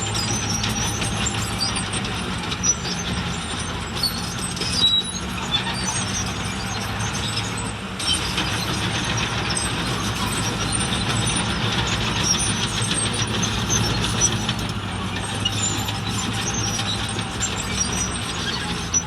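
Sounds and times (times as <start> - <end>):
diesel construction machinery running: 0.0 - 19.0
harsh machinery clatter: 0.0 - 19.0.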